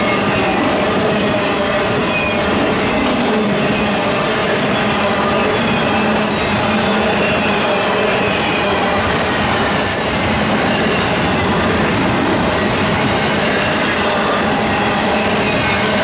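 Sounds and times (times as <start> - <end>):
freight train wheels clattering: 0.0 - 16.0.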